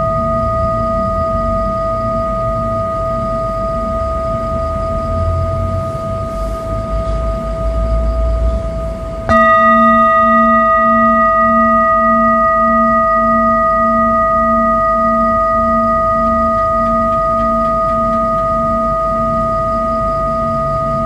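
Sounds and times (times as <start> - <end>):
mallet striking bowl: 0.0 - 4.7, 6.8 - 21.0
singing bowl ringing: 0.0 - 21.0.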